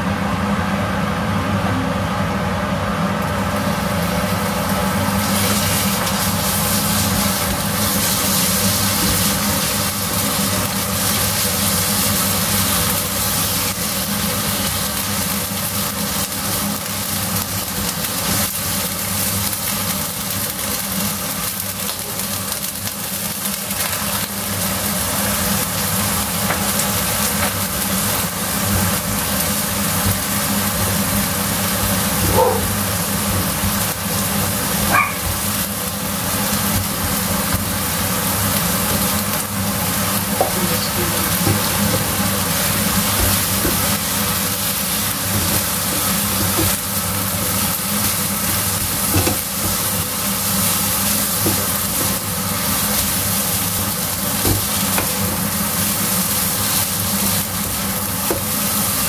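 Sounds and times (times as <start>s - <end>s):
cooker hood fan humming: 0.0s - 59.0s
meat sizzling in hot oil: 3.0s - 59.0s.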